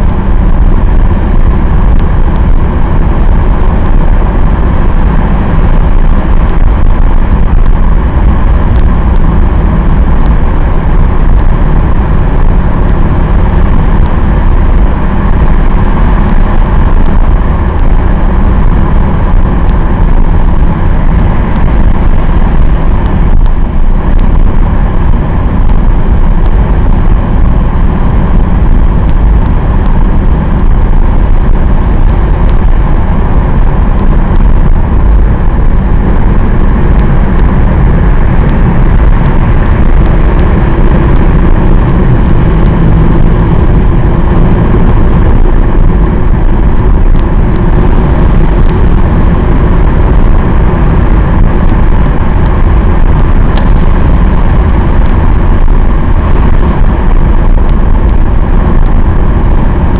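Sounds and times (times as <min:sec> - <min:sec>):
diesel engine running steadily: 0:00.0 - 0:59.9
road and tyre noise: 0:00.0 - 0:59.9.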